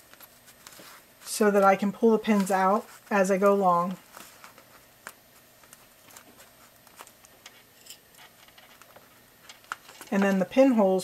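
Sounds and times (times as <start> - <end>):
plastic wrapper rustling: 0.0 - 10.6.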